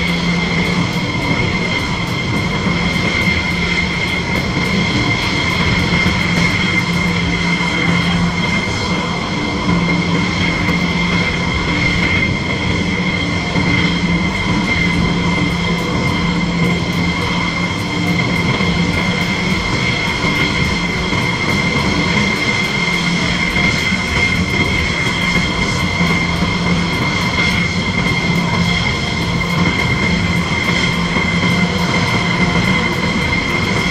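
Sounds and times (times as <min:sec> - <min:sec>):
jet engines idling: 0:00.0 - 0:33.9.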